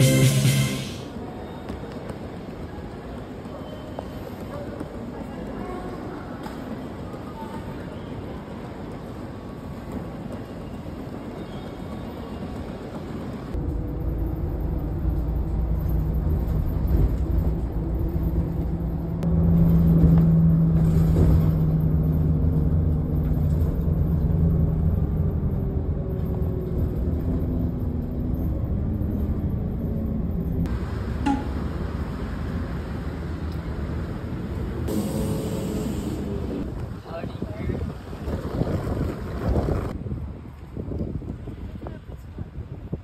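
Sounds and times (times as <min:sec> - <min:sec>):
bus engine and road noise: 0:00.0 - 0:43.0
busy station concourse ambience: 0:00.0 - 0:43.0.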